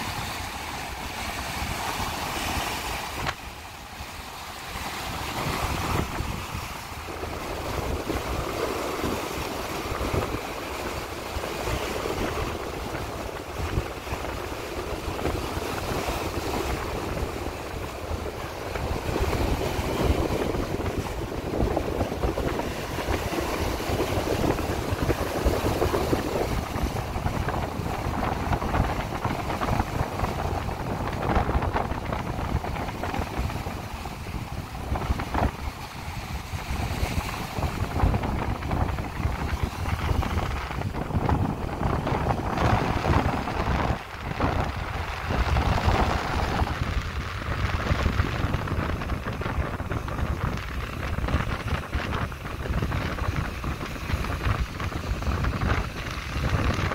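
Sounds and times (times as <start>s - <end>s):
waves splashing on rocks: 0.0s - 56.9s
wind buffeting microphone: 0.0s - 56.9s.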